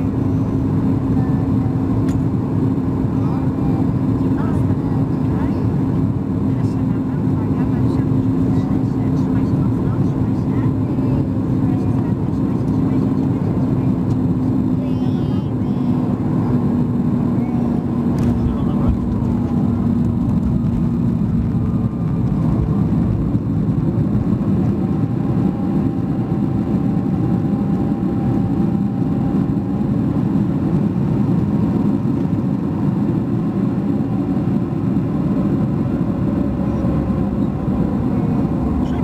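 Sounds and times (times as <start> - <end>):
jet engine reverse thrust: 0.0 - 39.0.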